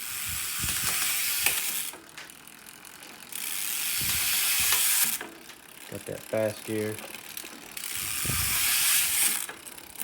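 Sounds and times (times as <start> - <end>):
bicycle hub ratchet buzz: 0.0 - 10.0.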